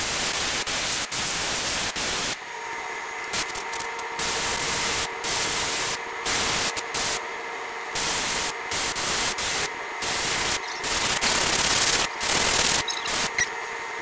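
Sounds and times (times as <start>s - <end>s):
airbrush spraying hissing bursts: 0.0s - 2.4s, 3.3s - 7.2s, 8.0s - 13.4s.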